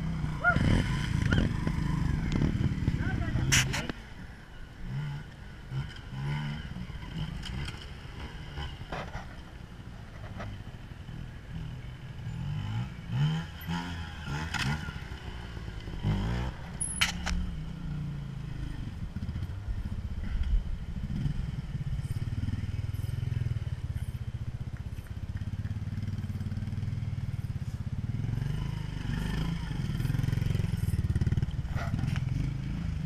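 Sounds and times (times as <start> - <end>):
motorcycle engine revving: 0.0 - 3.9, 4.8 - 9.4, 10.2 - 33.0.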